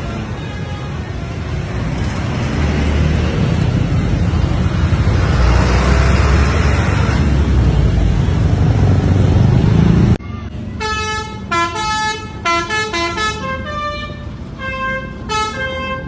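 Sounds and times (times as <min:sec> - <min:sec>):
bus engine rumble: 0:00.0 - 0:16.0
tyre and road noise: 0:00.0 - 0:16.0.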